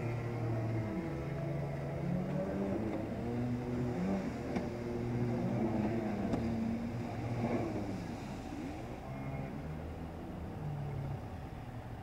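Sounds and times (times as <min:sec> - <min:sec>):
jet ski engines passing: 0:00.0 - 0:12.0.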